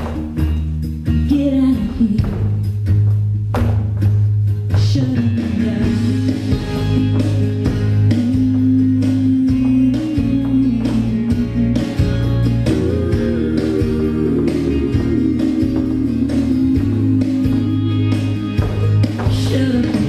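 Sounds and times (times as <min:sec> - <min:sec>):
country song with guitar and bass: 0:00.0 - 0:20.0.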